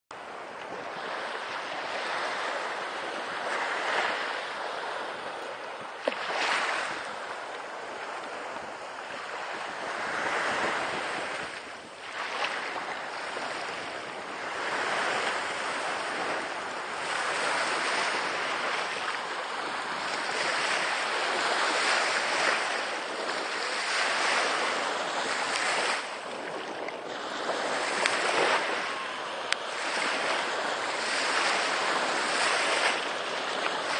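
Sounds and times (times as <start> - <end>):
small waves breaking on beach: 0.2 - 33.9
wind on microphone: 0.2 - 33.9.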